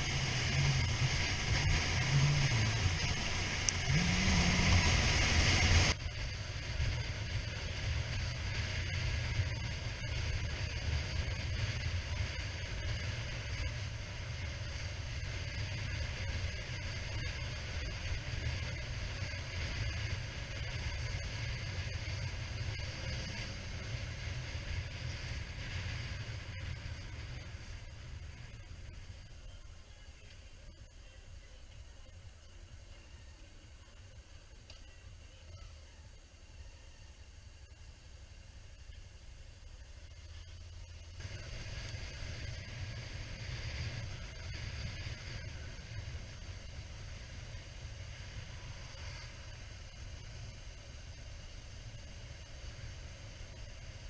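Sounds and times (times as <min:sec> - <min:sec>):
motorcycle engine: 0:00.0 - 0:30.9, 0:37.6 - 0:54.0
wind and road hiss: 0:00.0 - 0:54.0.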